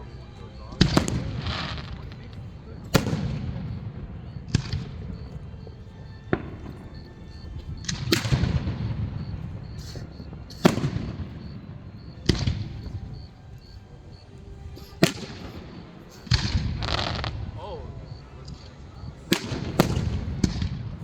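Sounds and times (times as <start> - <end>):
fireworks booming: 0.8 - 21.0.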